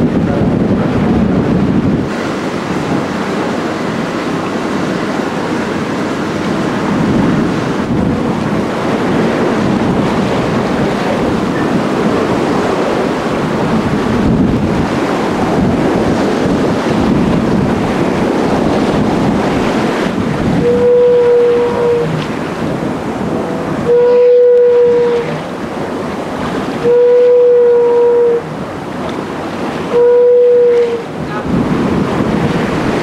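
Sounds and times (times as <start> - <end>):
sea water rushing along hull: 0.0 - 33.0
wind buffeting microphone: 0.0 - 33.0.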